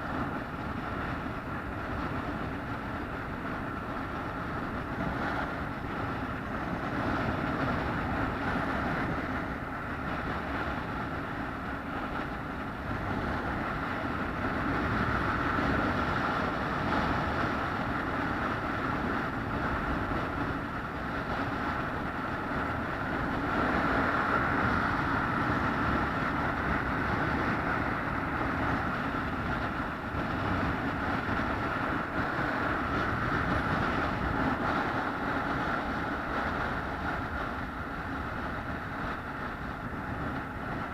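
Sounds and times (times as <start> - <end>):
vehicle engine drone: 0.0 - 40.9.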